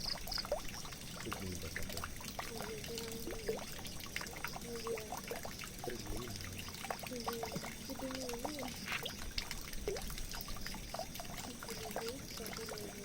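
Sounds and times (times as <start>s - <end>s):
water drips and splashes: 0.0s - 13.0s
water gurgles: 0.0s - 13.0s
water trickling and pouring: 0.0s - 13.0s.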